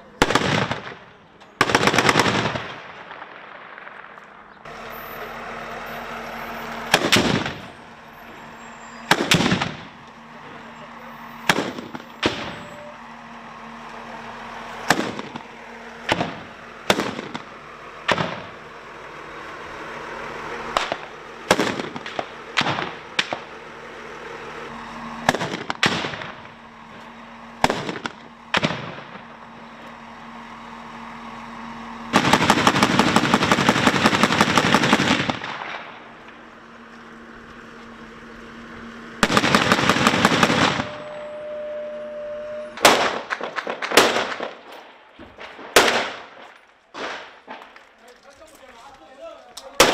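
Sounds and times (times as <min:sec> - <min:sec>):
vehicle engine hum: 0:00.0 - 0:49.9.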